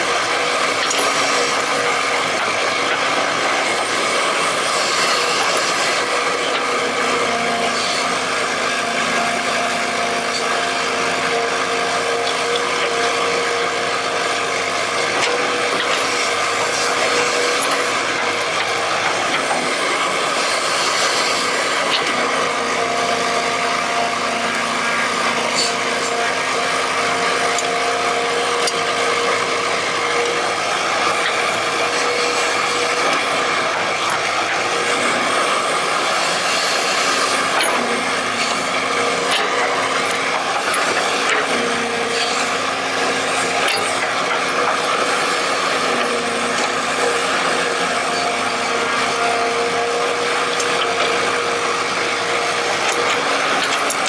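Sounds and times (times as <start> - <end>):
excavator hydraulics running: 0.0 - 54.0
excavator whine: 0.0 - 54.0.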